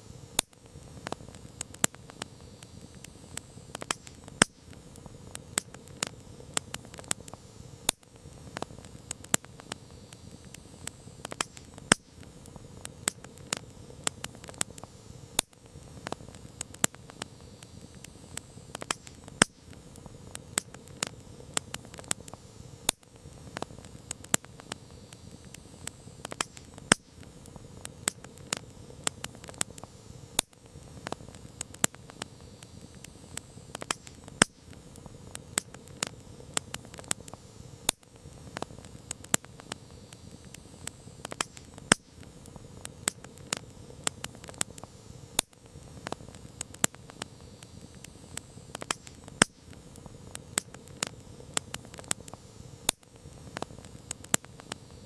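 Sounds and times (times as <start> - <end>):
campfire wood crackling: 0.0 - 55.0.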